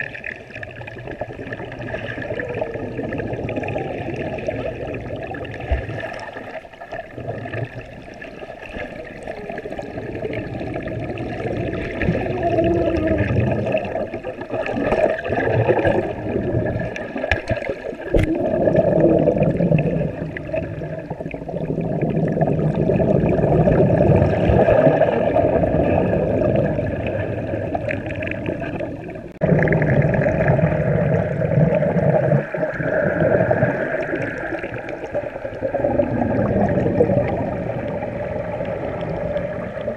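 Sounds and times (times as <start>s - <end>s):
underwater rushing and bubbling: 0.0s - 39.9s.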